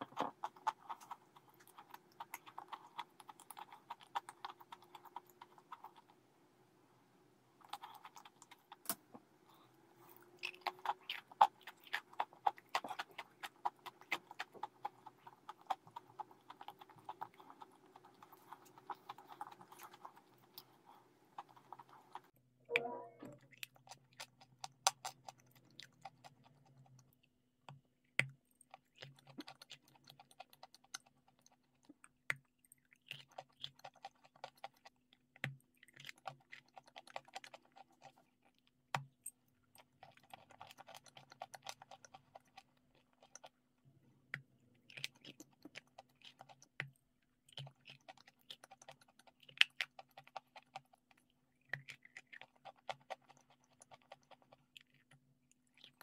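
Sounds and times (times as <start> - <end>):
wet mouth chewing sounds: 0.0 - 6.2, 7.6 - 27.3, 28.0 - 43.6, 44.3 - 56.0.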